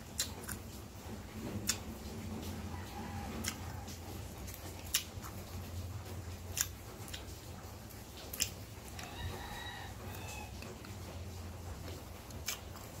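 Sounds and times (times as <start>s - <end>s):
crunching of mango being chewed: 0.0s - 13.0s.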